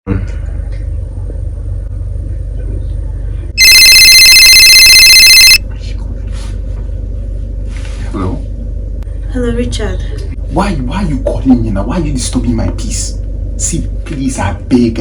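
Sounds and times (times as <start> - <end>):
low steady hum: 0.1 - 4.2, 5.0 - 15.0.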